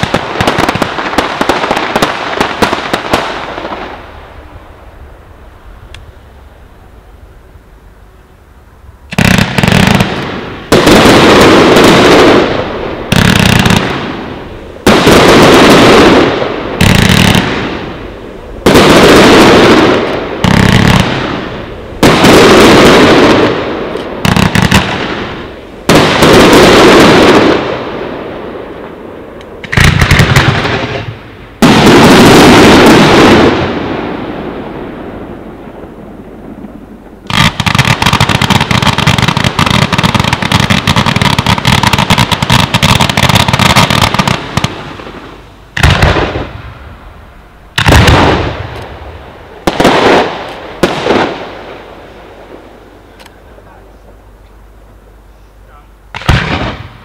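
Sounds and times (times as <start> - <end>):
firework bursts: 0.0 - 57.0.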